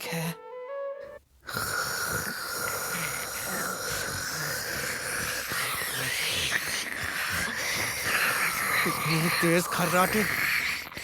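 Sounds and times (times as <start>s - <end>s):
loud snoring: 1.5s - 11.0s.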